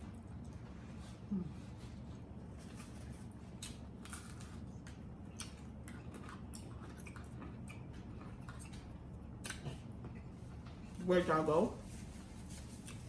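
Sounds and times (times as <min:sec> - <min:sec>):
steady low hum: 0:00.0 - 0:13.0
person chewing food: 0:00.4 - 0:10.8.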